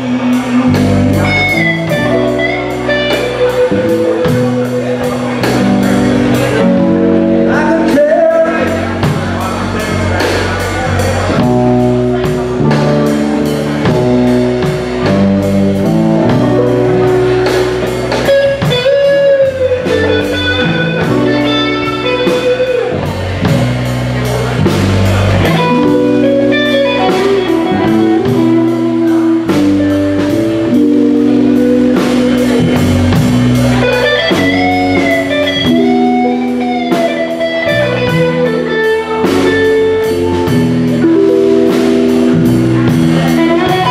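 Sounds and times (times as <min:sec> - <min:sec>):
blues guitar with bent notes: 0:00.0 - 0:43.9
drum kit steady beat: 0:00.0 - 0:43.9.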